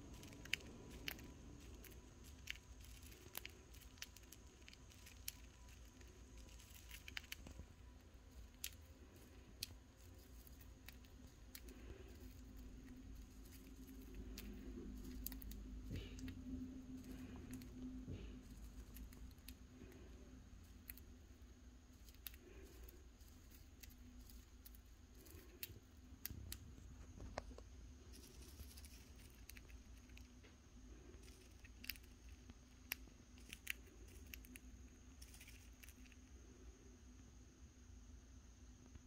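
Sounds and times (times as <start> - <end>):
bird beak husking seeds: 0.0 - 36.5.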